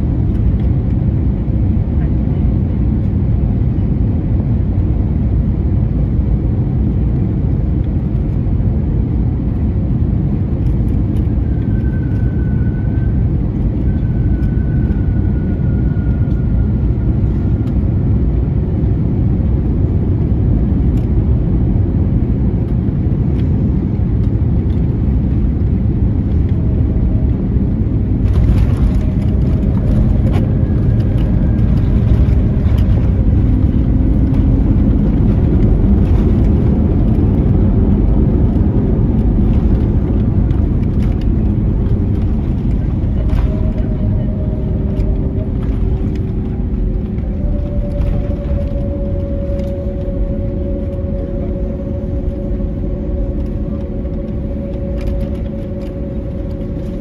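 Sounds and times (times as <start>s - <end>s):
aircraft cabin engine rumble: 0.0s - 57.0s
engine whine: 0.0s - 57.0s.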